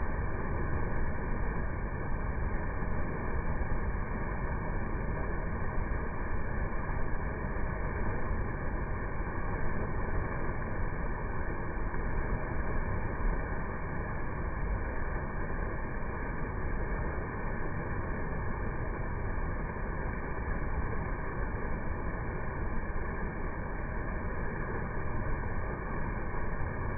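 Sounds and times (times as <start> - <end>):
water pouring down waterfall: 0.0 - 26.9.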